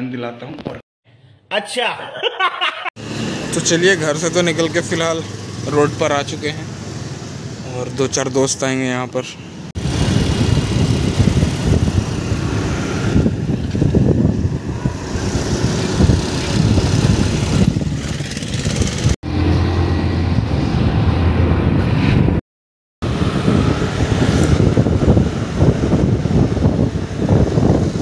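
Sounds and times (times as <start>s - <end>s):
vehicle engine and road noise: 3.0s - 22.4s, 23.0s - 28.0s.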